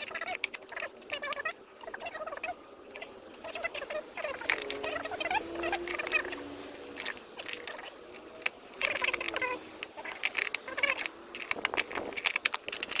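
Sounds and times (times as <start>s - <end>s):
metal screw squeaking and clicking: 0.0s - 13.0s.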